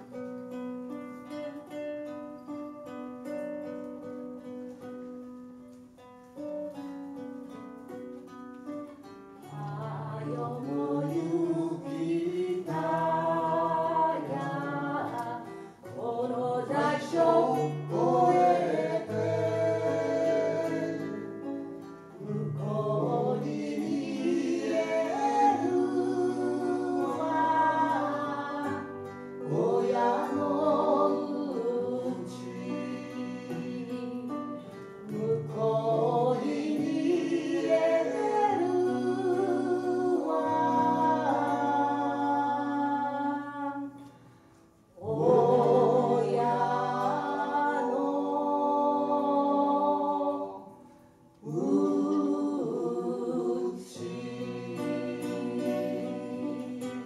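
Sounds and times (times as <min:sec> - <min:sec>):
acoustic guitars: 0:00.0 - 0:57.0
folk trio singing in harmony: 0:06.4 - 0:57.0.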